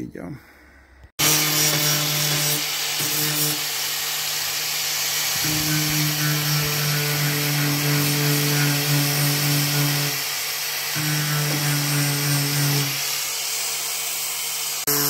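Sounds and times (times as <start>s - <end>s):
rotary tool grinding metal: 1.2s - 15.0s
steady hiss: 1.3s - 14.9s.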